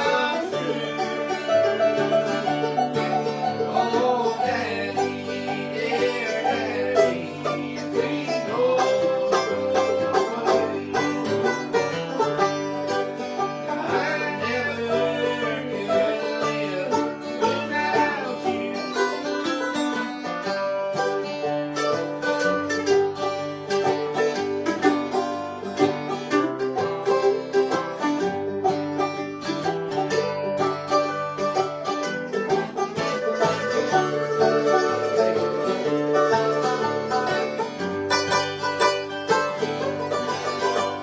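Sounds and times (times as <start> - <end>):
bluegrass string band playing: 0.0 - 41.0.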